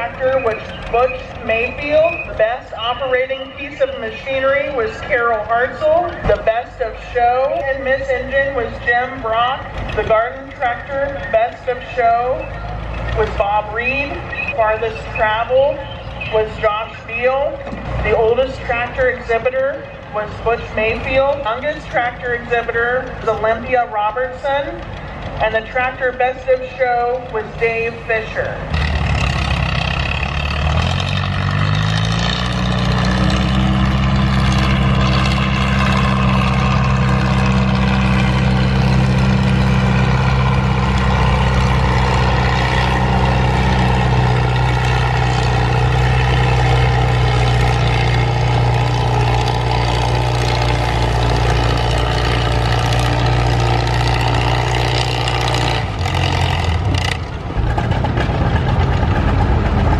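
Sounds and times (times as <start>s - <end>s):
tractor engine revving: 0.0s - 59.9s.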